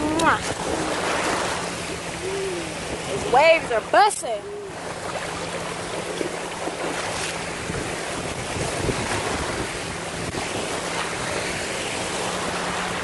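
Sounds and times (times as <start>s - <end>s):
lake waves breaking on shore: 0.0s - 13.0s
wind rumbling on microphone: 0.0s - 13.0s.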